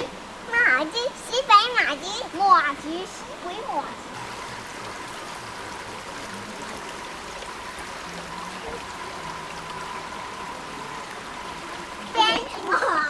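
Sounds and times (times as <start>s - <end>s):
faint high hum: 0.0s - 13.0s
flowing water rushing: 0.0s - 13.0s.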